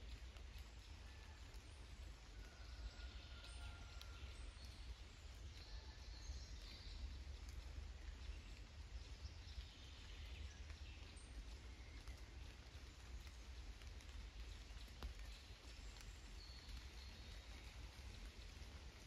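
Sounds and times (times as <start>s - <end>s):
raindrops dripping: 0.0s - 19.0s.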